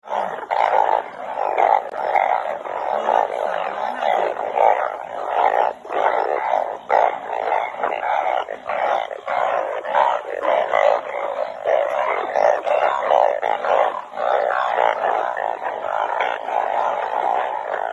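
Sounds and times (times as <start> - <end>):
frogs calling in chorus: 0.0 - 17.9.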